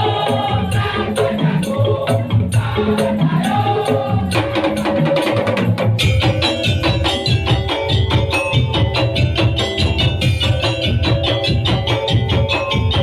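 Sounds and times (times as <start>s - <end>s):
bamboo slit drum percussion music: 0.0s - 13.0s.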